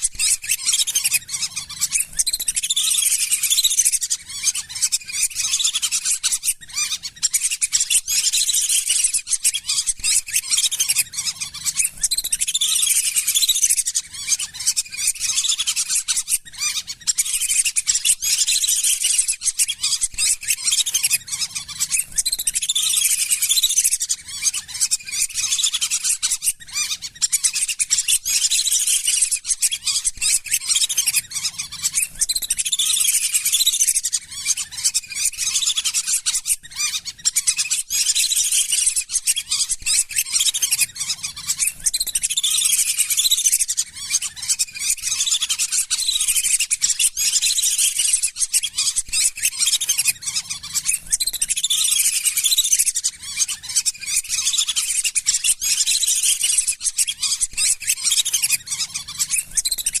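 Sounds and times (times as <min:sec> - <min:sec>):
ducks whistling: 0:00.0 - 1:00.0.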